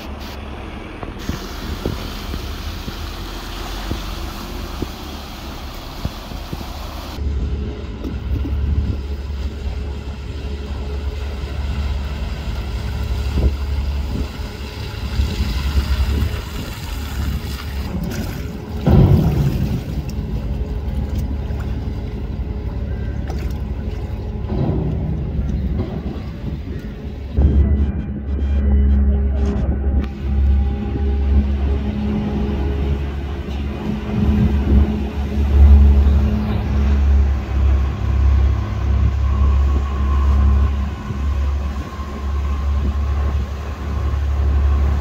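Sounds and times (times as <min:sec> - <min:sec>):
cars driving through water: 0:00.0 - 0:27.4, 0:30.0 - 0:45.0
steady low rumble: 0:00.0 - 0:45.0
wind buffeting microphone: 0:00.5 - 0:28.3, 0:29.4 - 0:45.0.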